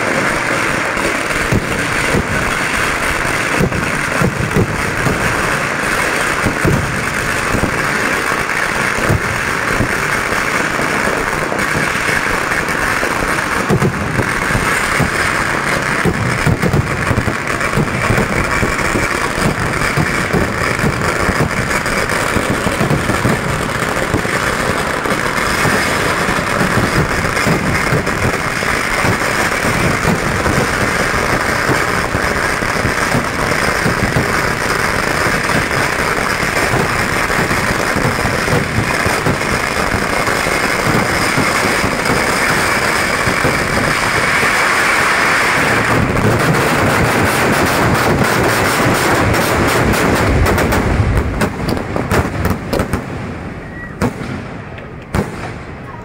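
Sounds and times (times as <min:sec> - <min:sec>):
deep firework bangs: 0:00.0 - 0:56.0
firecrackers crackling: 0:00.0 - 0:56.0.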